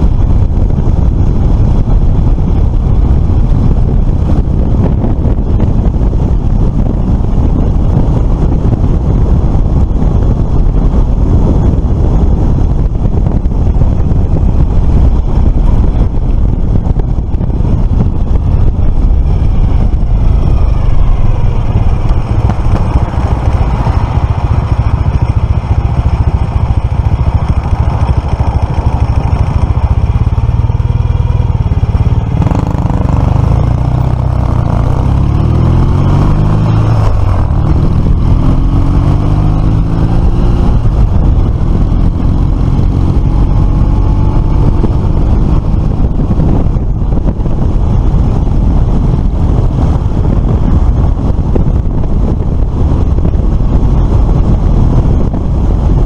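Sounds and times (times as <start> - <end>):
scooter engine running: 0.0 - 56.0
wind rush: 0.0 - 56.0.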